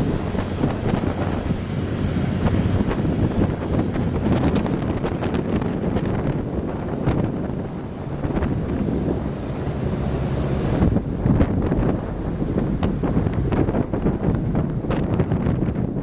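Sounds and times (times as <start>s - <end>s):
water noise: 0.0s - 16.0s
wind buffeting microphone: 0.0s - 16.0s.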